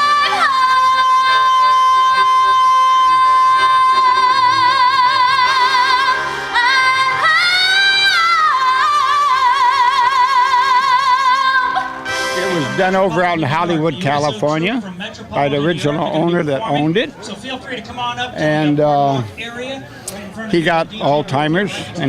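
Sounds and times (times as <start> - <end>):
quiet backing music: 0.0 - 22.0.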